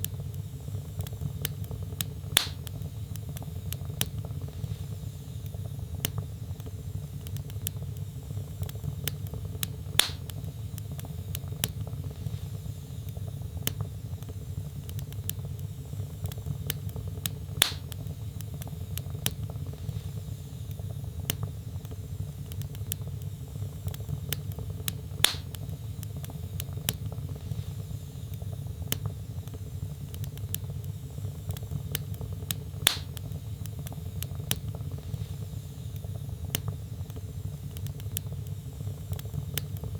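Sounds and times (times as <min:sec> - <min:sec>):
fire crackling: 0:00.0 - 0:39.9
loud pops from fire: 0:00.0 - 0:39.9.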